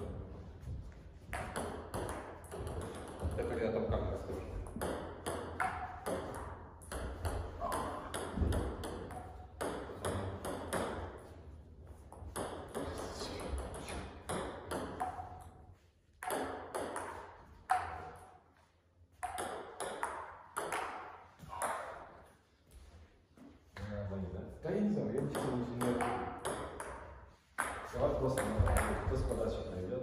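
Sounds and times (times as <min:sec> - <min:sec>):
table tennis ball hitting bats and table: 0:00.0 - 0:22.4, 0:25.1 - 0:29.9.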